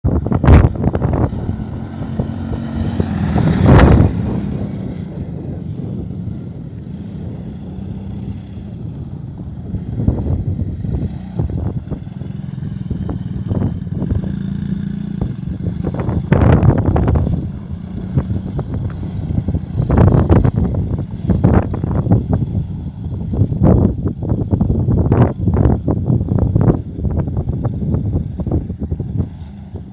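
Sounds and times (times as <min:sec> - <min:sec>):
atv engine idling: 0:00.1 - 0:29.1.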